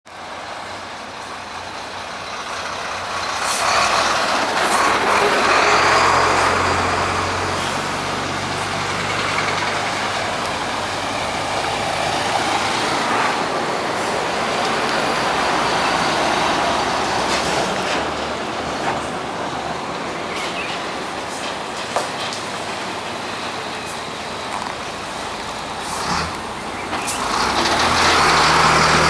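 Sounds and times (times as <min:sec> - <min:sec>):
heavy trucks driving past: 0:00.1 - 0:29.0
traffic rumble: 0:00.1 - 0:29.0.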